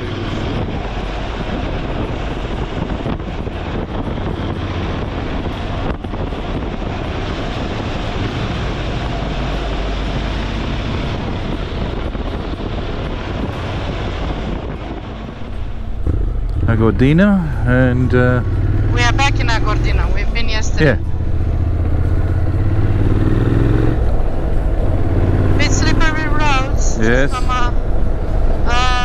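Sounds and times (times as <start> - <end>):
motorcycle engine running: 0.0 - 26.8
wind rush on microphone: 0.0 - 29.0.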